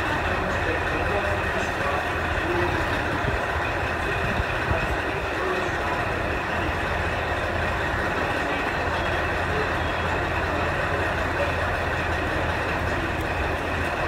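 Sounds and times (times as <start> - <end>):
diesel railcar engine idling: 0.0 - 14.0.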